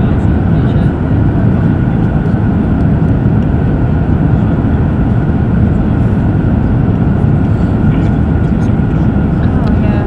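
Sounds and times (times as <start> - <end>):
airliner cabin noise: 0.0 - 10.0.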